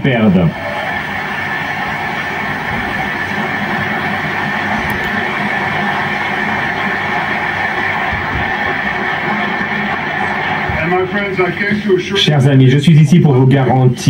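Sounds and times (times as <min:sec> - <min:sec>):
audience applauding: 0:00.4 - 0:12.4.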